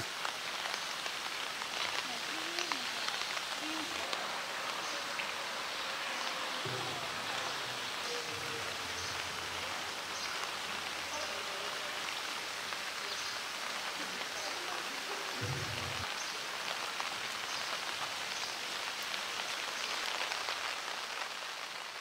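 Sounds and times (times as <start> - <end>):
rain on concrete and water: 0.0 - 22.0.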